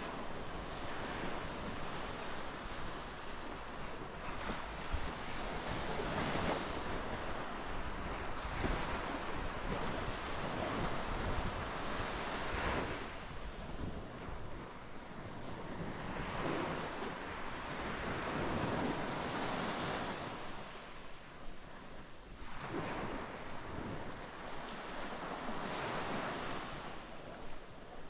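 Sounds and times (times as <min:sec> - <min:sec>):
sea waves breaking on shore: 0:00.0 - 0:28.0
wind rumbling on microphone: 0:00.0 - 0:28.0.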